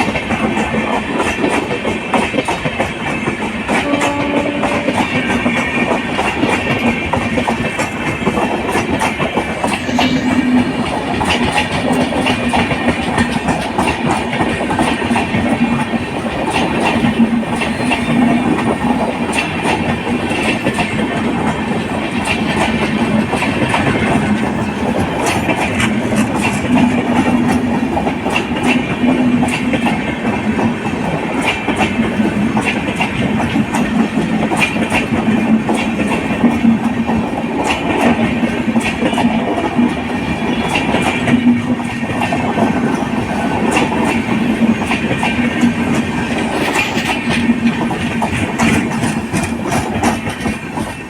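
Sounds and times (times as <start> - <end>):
train rumble: 0.0 - 51.0
wheels clicking over rail joints: 0.0 - 51.0.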